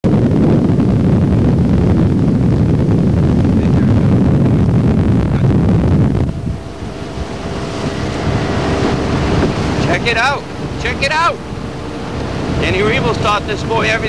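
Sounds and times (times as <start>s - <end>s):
motorboat engine rumble: 0.0s - 14.0s
wind buffeting microphone: 0.0s - 14.0s.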